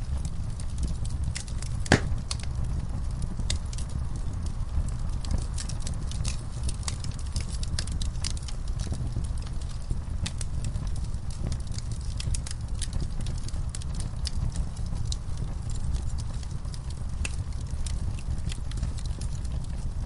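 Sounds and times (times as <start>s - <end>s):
fire rumbling in fireplace: 0.0s - 20.0s
logs crackling and popping: 0.0s - 20.0s.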